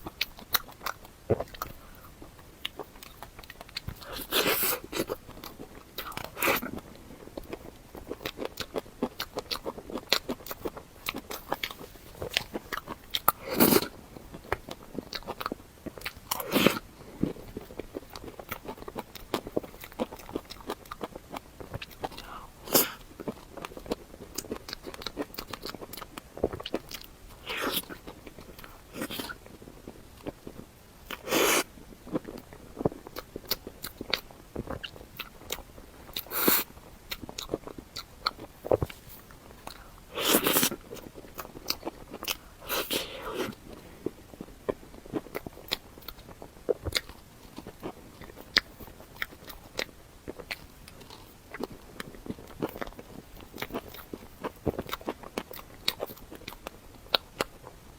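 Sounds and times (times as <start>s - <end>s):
wet mouth clicks and chewing: 0.0s - 57.8s.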